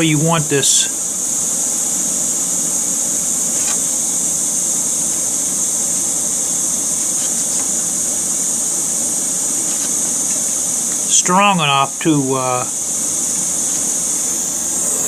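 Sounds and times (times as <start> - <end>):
hot-air welding gun hissing: 0.0 - 15.0.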